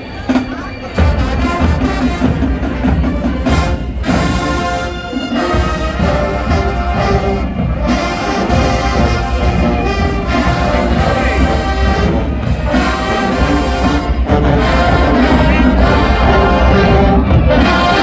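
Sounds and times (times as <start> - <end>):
drums: 0.0 - 18.0
marching band playing: 0.0 - 18.0
trumpets and trombones: 0.8 - 18.0.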